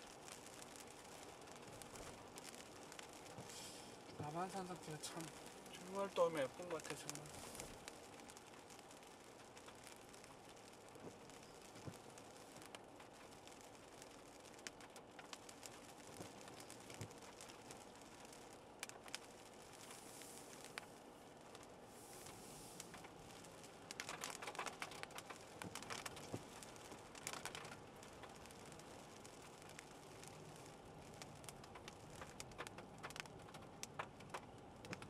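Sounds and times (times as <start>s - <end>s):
low road hum: 0.0s - 35.0s
raindrops pattering on car: 0.0s - 35.0s.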